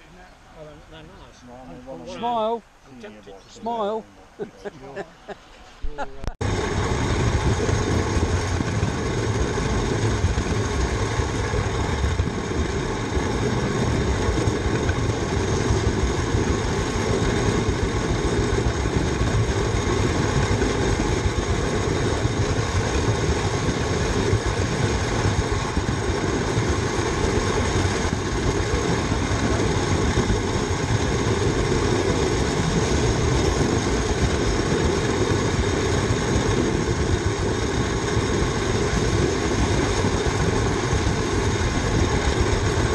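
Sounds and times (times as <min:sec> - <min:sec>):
model locomotive rumbling and rattling: 0:06.4 - 0:42.9.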